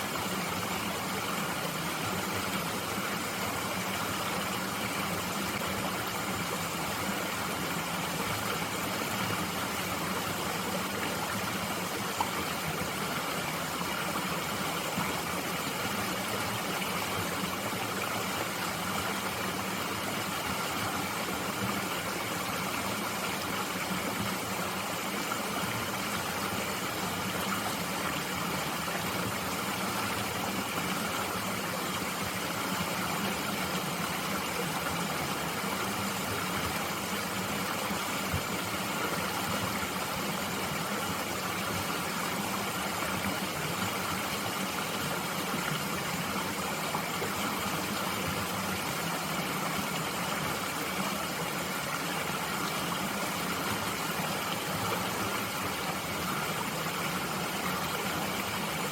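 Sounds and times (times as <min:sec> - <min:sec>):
mountain stream flowing: 0:00.0 - 0:58.9.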